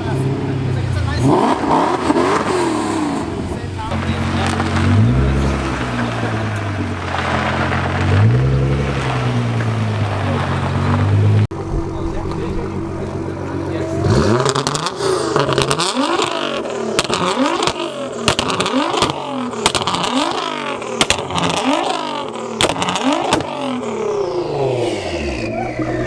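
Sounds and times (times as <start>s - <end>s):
car engine revving: 0.0s - 26.0s
exhaust cracks: 0.0s - 26.0s.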